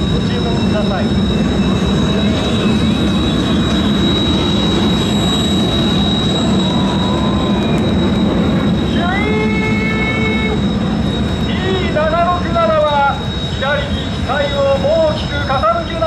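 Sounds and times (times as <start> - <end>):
jet engine rumble and whine: 0.0 - 16.0.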